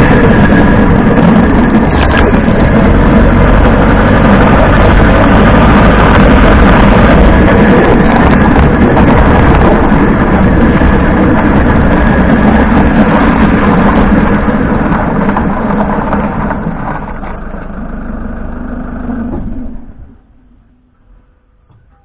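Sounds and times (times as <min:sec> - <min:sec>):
tyre road noise: 0:00.0 - 0:22.0
van drivetrain running: 0:00.0 - 0:22.0.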